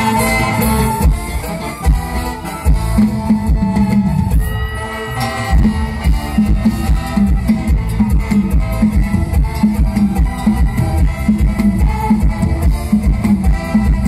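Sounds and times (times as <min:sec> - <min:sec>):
loud stage-show music: 0:00.0 - 0:14.0.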